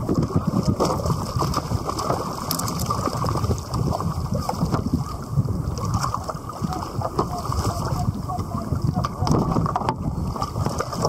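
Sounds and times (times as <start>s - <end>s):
water sloshing against kayak: 0.0s - 11.0s
wind buffeting microphone: 0.0s - 11.0s.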